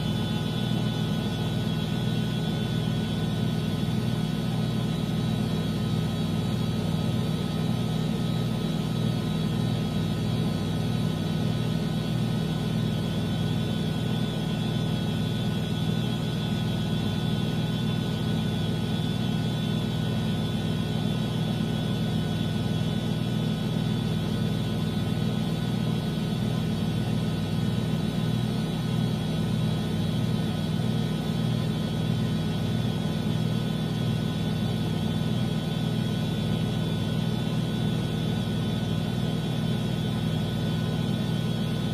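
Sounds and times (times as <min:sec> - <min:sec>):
washing machine hum and whine: 0:00.0 - 0:41.9.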